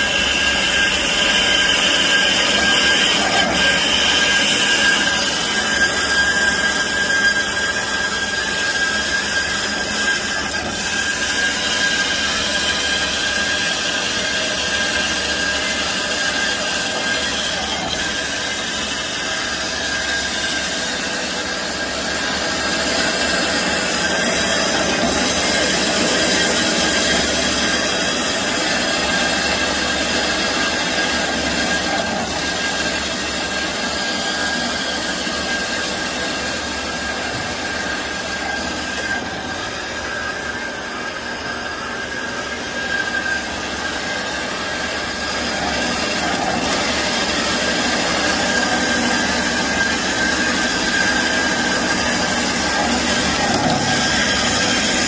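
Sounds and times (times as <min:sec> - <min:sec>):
band saw grinding through metal: 0:00.0 - 0:55.0.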